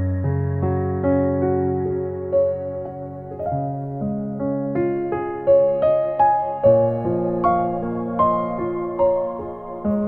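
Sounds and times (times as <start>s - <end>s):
ambient piano music: 0.0s - 10.0s.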